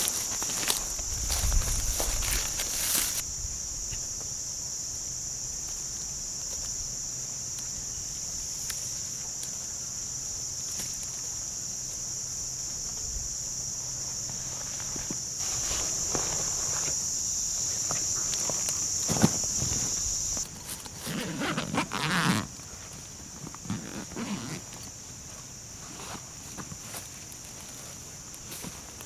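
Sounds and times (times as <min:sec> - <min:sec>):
insect chorus shrill drone: 0:00.0 - 0:27.7.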